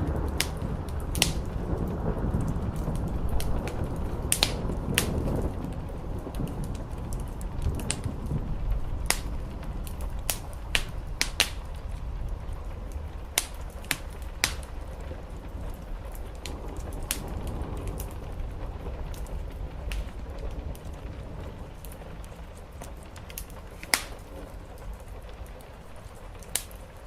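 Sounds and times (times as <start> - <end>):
low rumble: 0.0 - 27.0
wood fire crackling and popping: 0.0 - 27.0.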